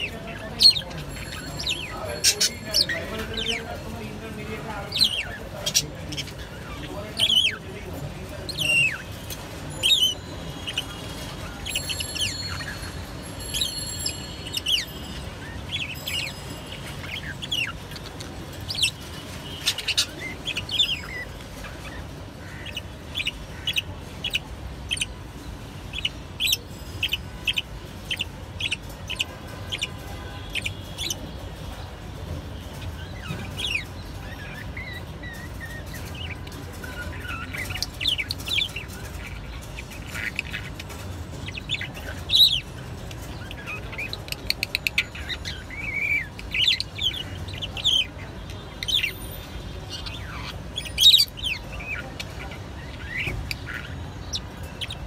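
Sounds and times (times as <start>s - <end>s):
parrots chirping: 0.0s - 32.0s, 32.6s - 55.0s.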